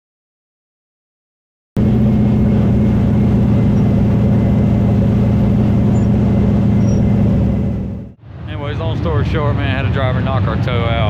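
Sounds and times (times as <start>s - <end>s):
race car engine running hard: 1.8s - 11.0s.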